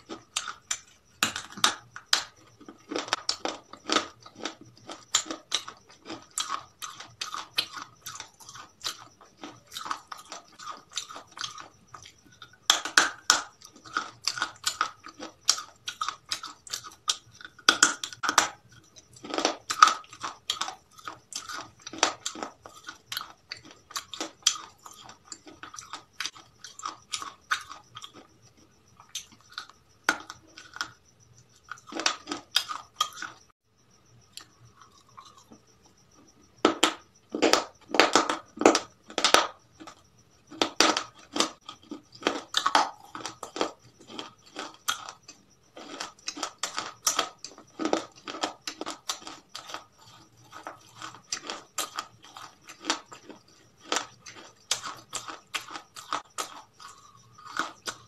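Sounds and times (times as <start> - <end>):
person chewing crispy chicken: 0.0 - 31.0, 31.6 - 33.5, 34.4 - 35.7, 39.8 - 58.0.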